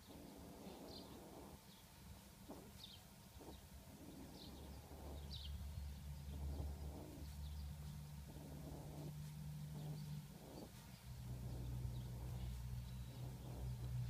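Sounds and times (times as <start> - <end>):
low steady hum: 0.0 - 14.0
small animal chirping: 0.0 - 14.0.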